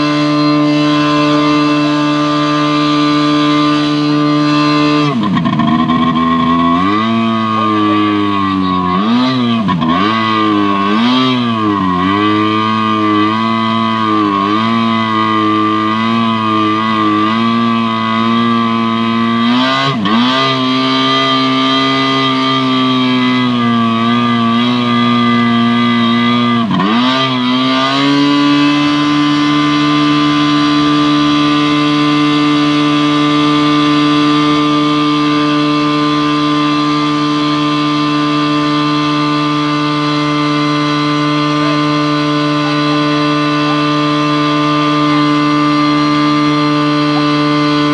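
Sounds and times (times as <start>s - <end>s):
fire pump engine running: 0.0s - 47.9s.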